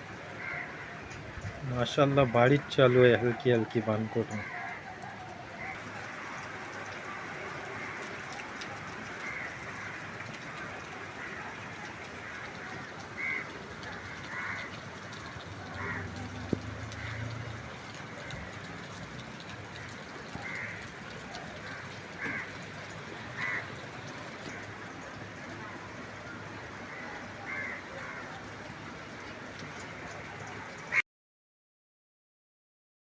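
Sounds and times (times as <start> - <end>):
light rain falling: 0.0 - 31.0.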